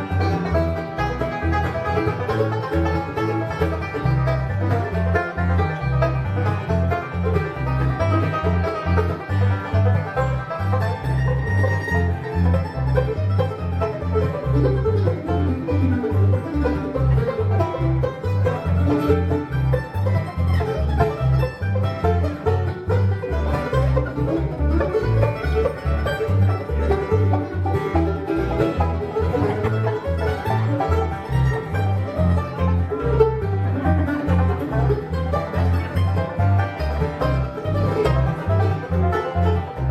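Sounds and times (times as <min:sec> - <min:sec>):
banjo melody: 0:00.0 - 0:39.9
bass line: 0:00.0 - 0:39.9
picked guitar: 0:00.0 - 0:39.9.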